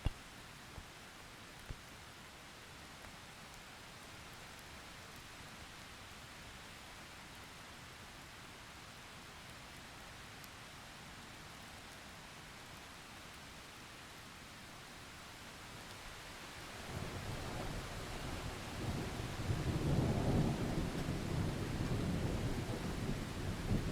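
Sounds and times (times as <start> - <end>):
soft steady rain: 0.0 - 23.9.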